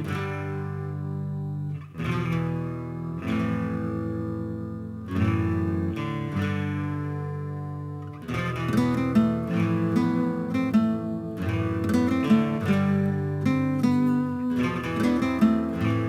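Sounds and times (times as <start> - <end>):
guitar chords ringing: 0.0 - 16.0.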